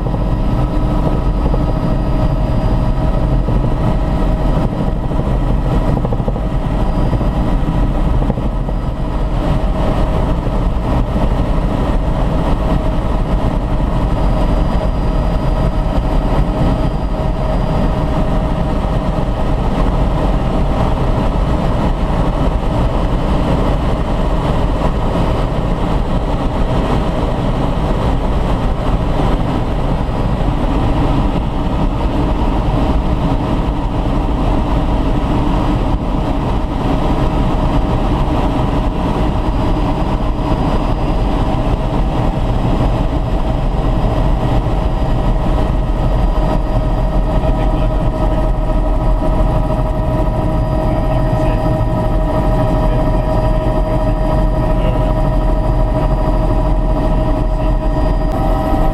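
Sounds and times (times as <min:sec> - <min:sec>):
helicopter flying: 0:00.0 - 0:58.9.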